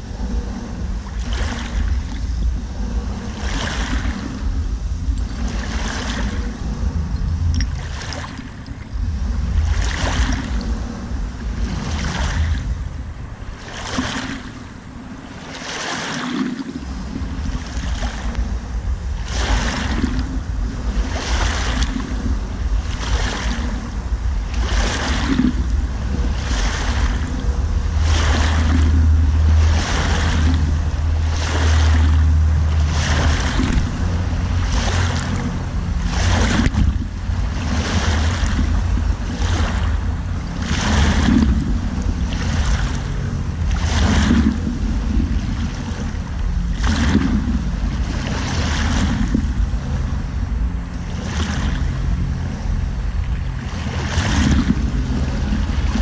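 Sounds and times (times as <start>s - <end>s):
steady low rumble: 0.0s - 56.0s
waves washing over pebbles: 0.0s - 56.0s.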